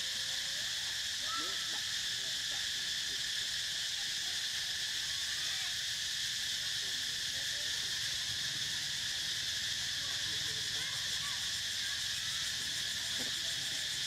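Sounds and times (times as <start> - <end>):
insects buzzing drone: 0.0 - 14.0.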